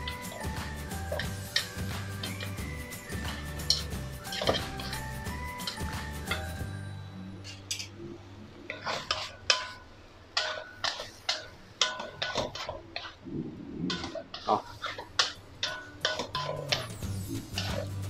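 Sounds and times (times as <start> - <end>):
spatula knocking and scraping wok: 0.0 - 6.8, 8.7 - 13.2, 13.9 - 18.0.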